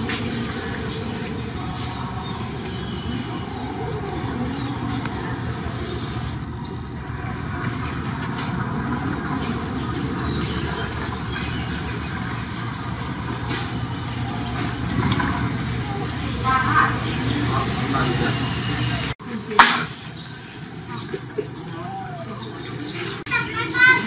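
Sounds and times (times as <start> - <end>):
low mechanical hum: 0.0 - 23.6.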